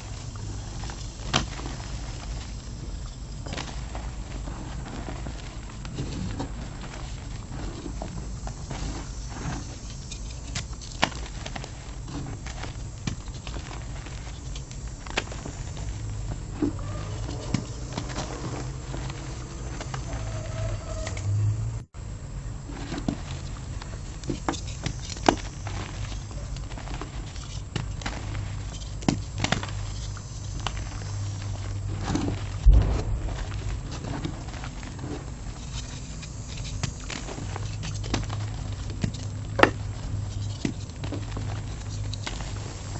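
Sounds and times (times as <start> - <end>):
chalk crunching and crumbling: 0.0 - 21.1, 22.7 - 42.9.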